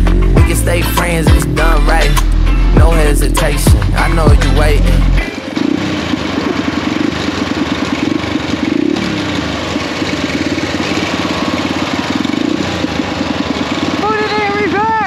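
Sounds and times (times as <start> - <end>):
pit bike engine running: 0.0 - 15.0
ride-on lawnmower engine: 0.0 - 15.0.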